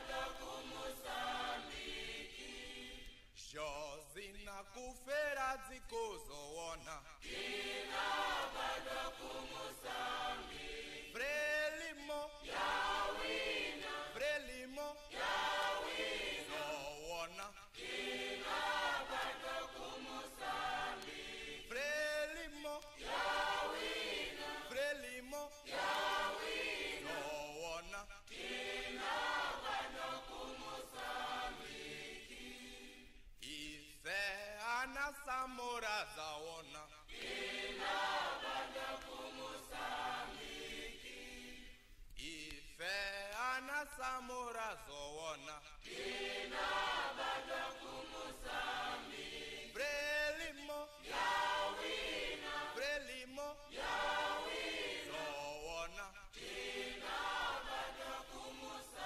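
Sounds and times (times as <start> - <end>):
choir singing a chant-like song: 0.0 - 59.0.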